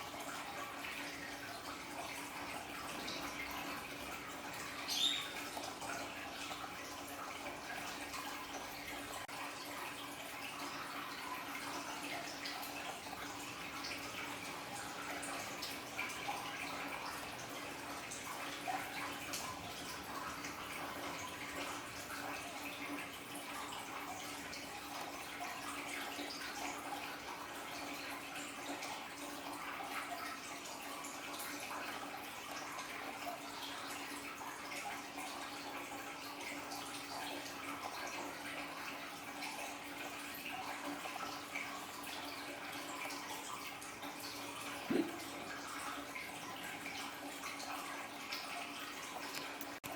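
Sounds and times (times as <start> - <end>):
aquarium waterfall splashing: 0.0 - 49.9
water drips: 0.0 - 49.9.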